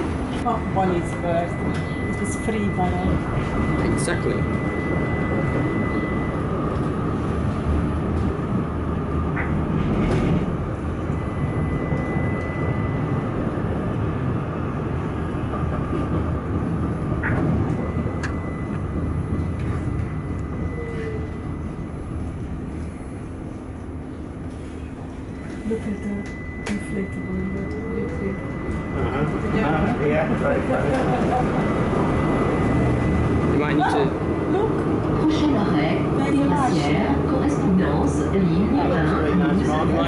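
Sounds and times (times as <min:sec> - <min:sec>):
tram rumbling on tracks: 0:00.0 - 0:40.0.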